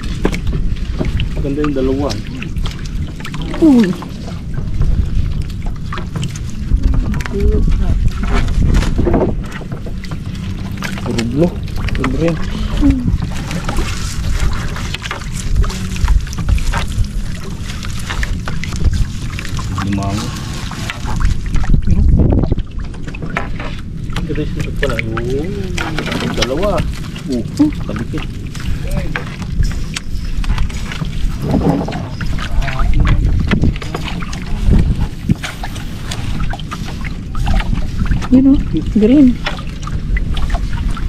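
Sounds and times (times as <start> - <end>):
small water splashes and drips: 0.0 - 41.0
wet net hauled into boat: 0.0 - 41.0
wind rumble on microphone: 0.0 - 41.0.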